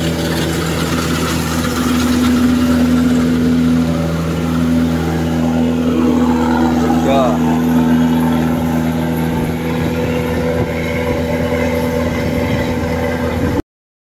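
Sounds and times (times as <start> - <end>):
combine harvester engine humming: 0.0 - 13.6.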